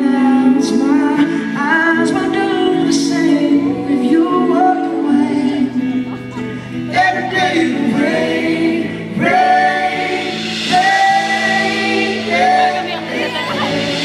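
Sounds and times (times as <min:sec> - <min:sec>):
live band accompaniment: 0:00.0 - 0:14.0.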